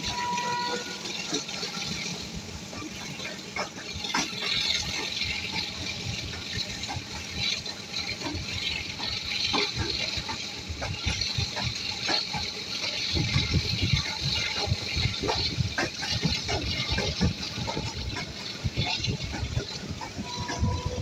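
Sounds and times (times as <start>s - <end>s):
train running rumble: 0.0s - 21.0s
train wheels knocking: 0.0s - 21.0s.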